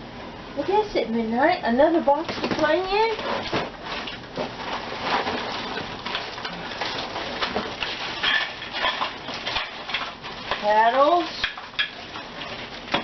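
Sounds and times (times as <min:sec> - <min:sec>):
packaging rustling and crinkling: 0:02.3 - 0:13.0.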